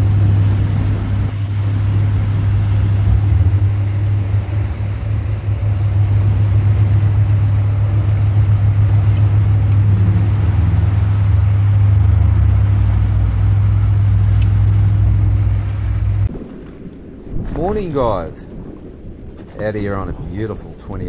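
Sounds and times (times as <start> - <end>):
engine low drone: 0.0 - 17.7.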